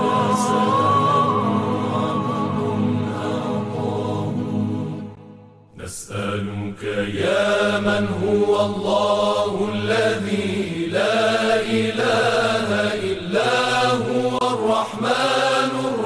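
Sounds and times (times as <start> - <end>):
melismatic religious chant: 0.0 - 16.0.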